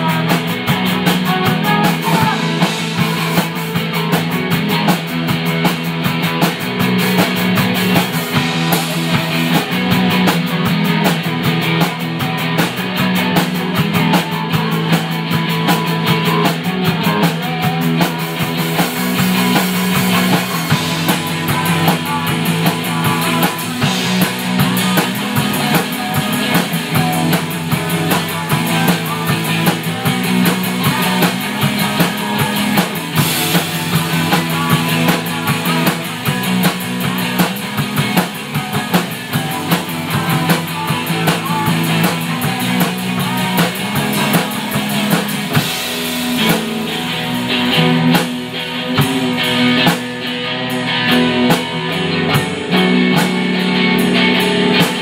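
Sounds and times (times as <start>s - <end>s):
distorted electric guitars: 0.0s - 55.0s
drumming: 0.0s - 55.0s.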